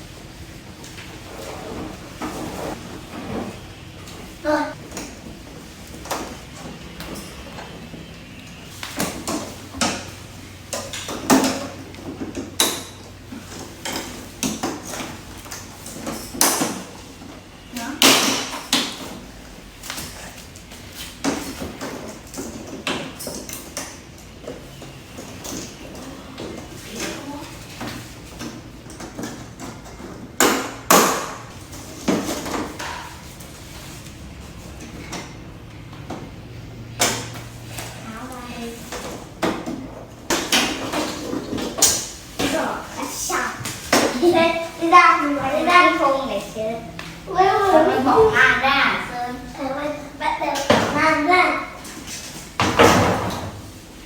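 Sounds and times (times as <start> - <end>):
knocks and clatter of parts and tools: 0.2 - 46.0, 49.4 - 54.0.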